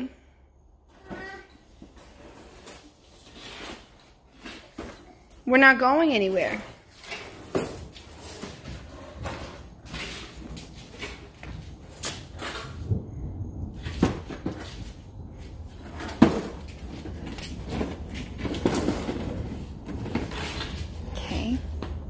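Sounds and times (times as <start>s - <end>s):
plastic seat scraping on concrete: 0.9s - 13.1s, 13.7s - 22.0s.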